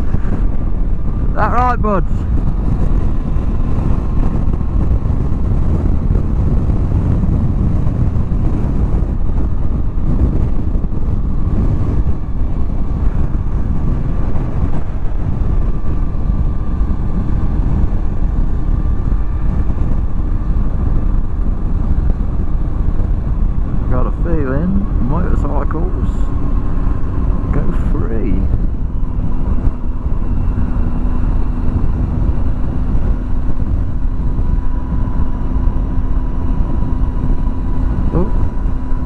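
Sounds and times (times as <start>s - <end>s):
motorcycle engine cruising: 0.0s - 39.0s
wind rush: 0.0s - 39.0s.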